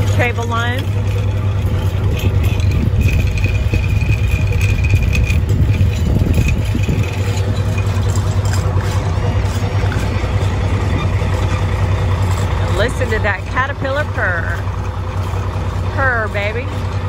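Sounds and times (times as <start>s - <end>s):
diesel engine purring: 0.0s - 17.0s.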